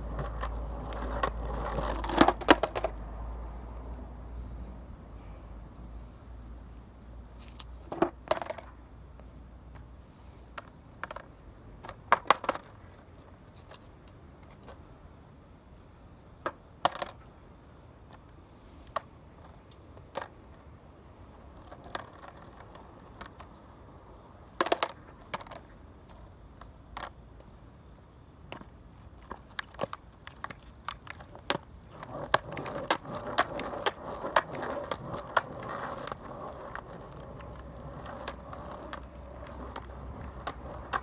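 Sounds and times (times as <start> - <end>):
faint steady background noise: 0.0 - 41.0.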